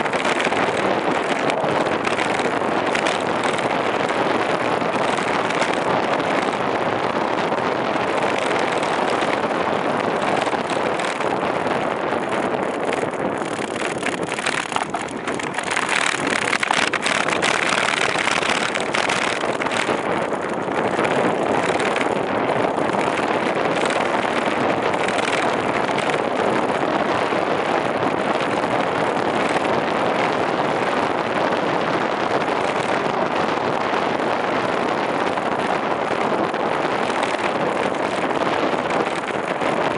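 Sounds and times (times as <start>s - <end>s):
bicycle tyres on road: 0.0s - 39.9s
wind on microphone: 0.0s - 39.9s.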